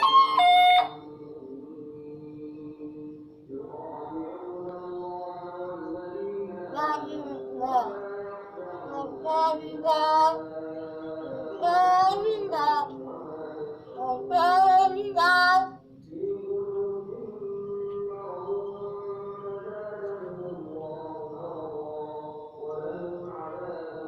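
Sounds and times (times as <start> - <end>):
sung or chanted music: 0.0 - 24.0.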